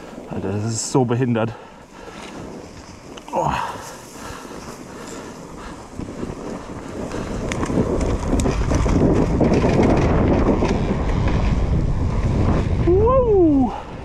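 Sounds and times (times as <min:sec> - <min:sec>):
wind buffeting microphone: 0:00.0 - 0:14.0
motorcycle engine rumble: 0:01.8 - 0:14.0.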